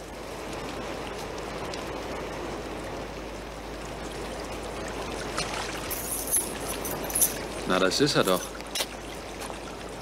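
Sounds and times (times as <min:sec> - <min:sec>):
rain splashing on pavement: 0:00.0 - 0:10.0.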